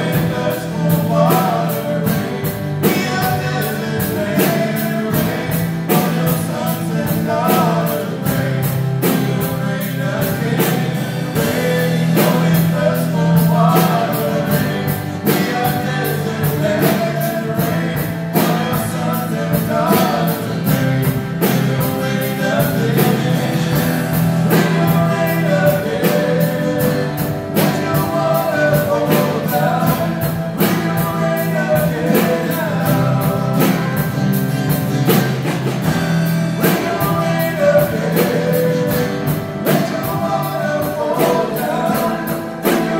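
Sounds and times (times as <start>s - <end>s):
acoustic guitars: 0.0s - 42.9s
drum kit beat: 0.0s - 42.9s
person singing: 0.0s - 42.9s.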